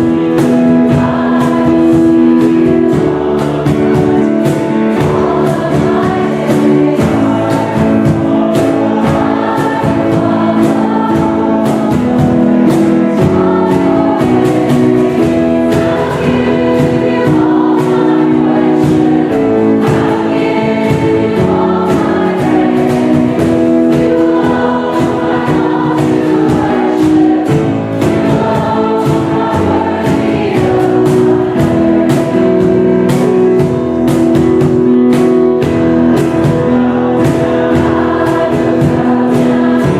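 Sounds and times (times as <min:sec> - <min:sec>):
congregation singing a hymn: 0:00.0 - 0:39.9
instrumental accompaniment: 0:00.0 - 0:39.9.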